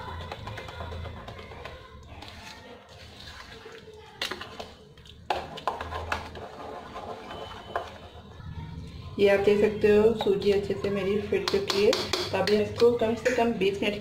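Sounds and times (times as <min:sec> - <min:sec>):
spoon stirring thick batter: 0:00.0 - 0:14.0.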